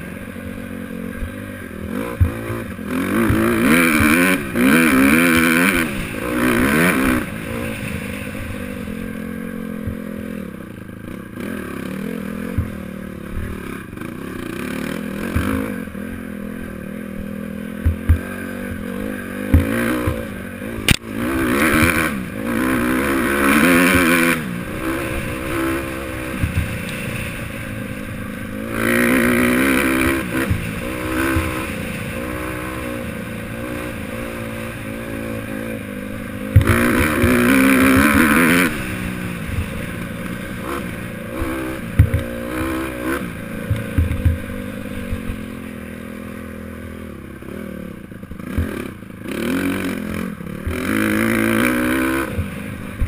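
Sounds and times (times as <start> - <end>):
dirt bike engine revving: 0.0 - 53.0
bike knocking and rattling: 1.2 - 11.7, 12.4 - 33.4, 35.9 - 45.7, 48.1 - 49.8, 50.5 - 53.0.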